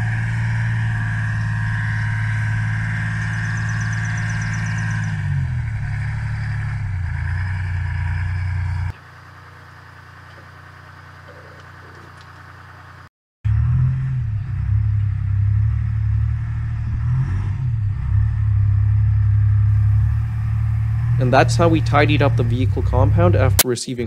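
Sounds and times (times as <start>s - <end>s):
diesel engine running: 0.0s - 23.6s.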